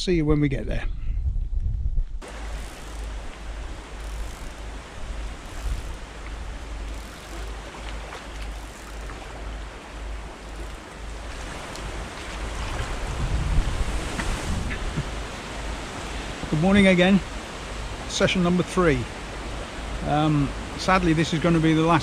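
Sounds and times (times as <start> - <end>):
gusty wind on microphone: 0.0 - 18.1
water lapping on shore: 2.2 - 22.0.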